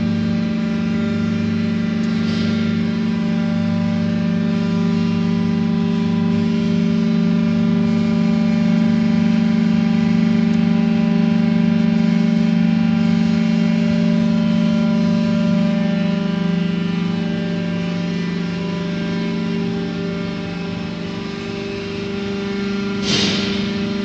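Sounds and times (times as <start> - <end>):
hydraulic lift motor humming: 0.0 - 24.0.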